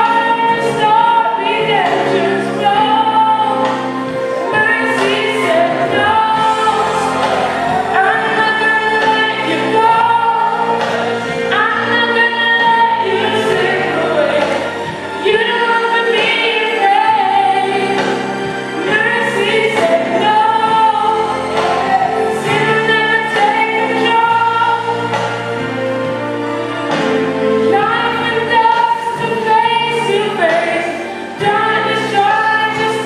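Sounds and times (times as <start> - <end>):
choir singing gospel: 0.0 - 33.0
musical accompaniment: 0.0 - 33.0.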